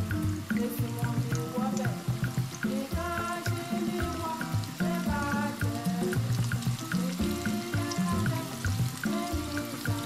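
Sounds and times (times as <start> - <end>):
background music with steady beat: 0.0 - 10.0
food deep-frying in oil: 0.0 - 10.0.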